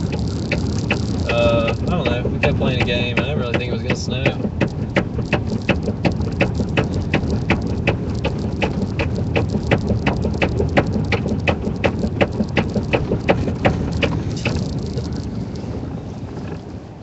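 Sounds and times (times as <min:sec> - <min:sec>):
sharp even ticking: 0:00.0 - 0:15.3
vehicle rumble inside cab: 0:00.0 - 0:17.0.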